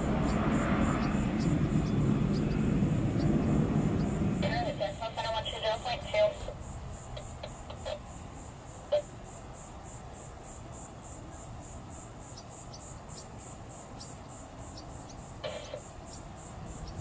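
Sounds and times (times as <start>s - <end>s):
insects pulsing chorus: 0.0s - 17.0s
low background noise: 0.0s - 17.0s.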